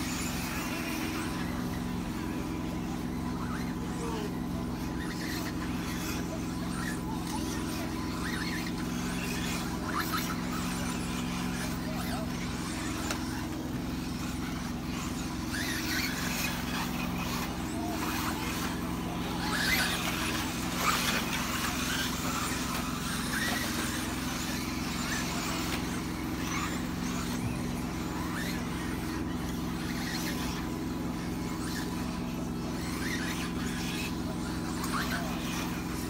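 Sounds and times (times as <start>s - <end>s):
rc race cars running: 0.0s - 36.0s
steady low hum: 0.0s - 36.0s.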